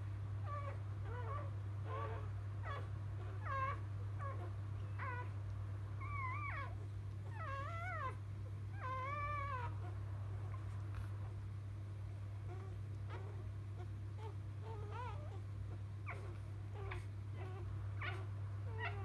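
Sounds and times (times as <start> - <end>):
puppy crying: 0.4 - 5.4, 6.0 - 11.4, 12.4 - 19.0.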